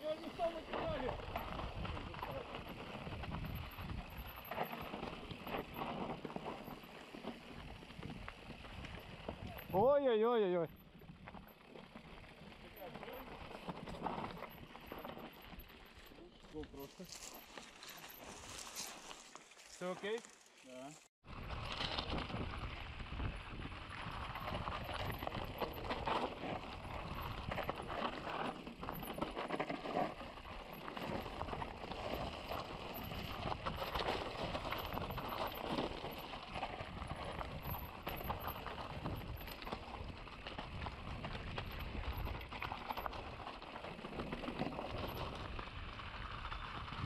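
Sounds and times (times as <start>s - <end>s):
bike rattling over stones: 0.0s - 47.0s.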